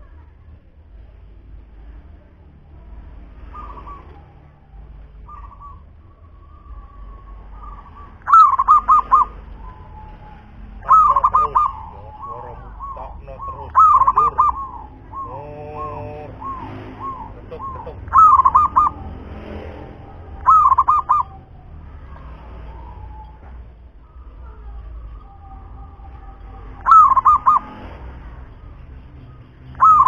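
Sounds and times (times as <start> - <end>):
dove cooing: 3.4 - 19.2, 19.8 - 30.0.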